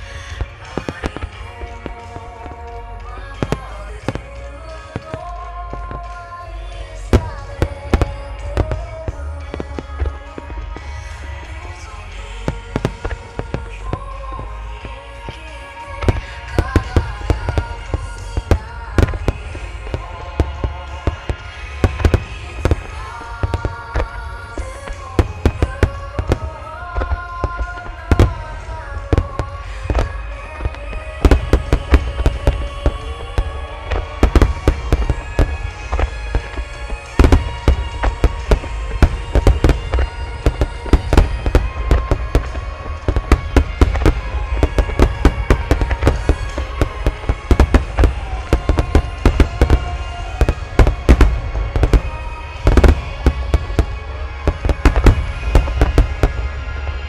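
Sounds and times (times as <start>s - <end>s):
fireworks bursting: 0.0s - 57.0s
music: 0.0s - 57.0s.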